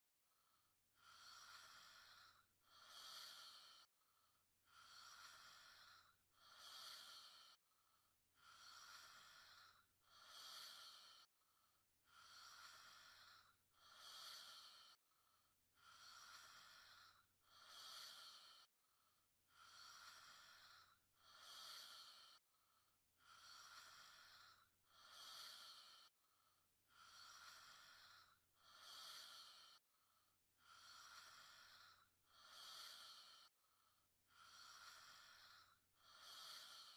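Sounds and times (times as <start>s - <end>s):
woman breathing while asleep: 0.2s - 36.9s.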